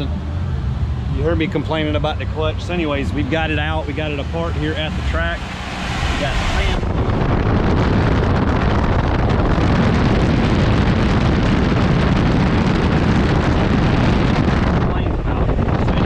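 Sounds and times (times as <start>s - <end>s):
fan air buffeting microphone: 0.0s - 16.0s.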